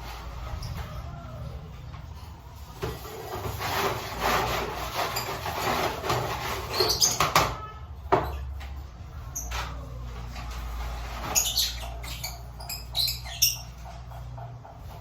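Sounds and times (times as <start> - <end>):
birds rustling in a cage: 0.0 - 15.0.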